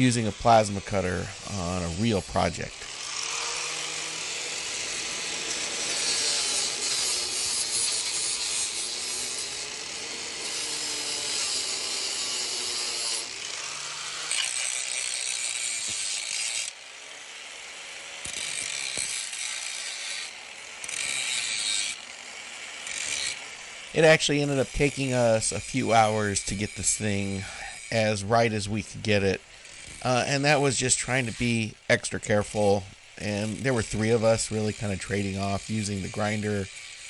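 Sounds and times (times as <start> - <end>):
angle grinder grinding steel: 0.0 - 37.0.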